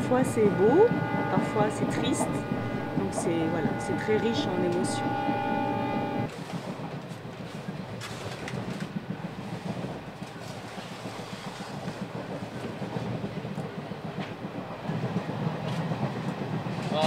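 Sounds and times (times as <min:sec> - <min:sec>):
train carriage rumble: 0:00.0 - 0:17.0.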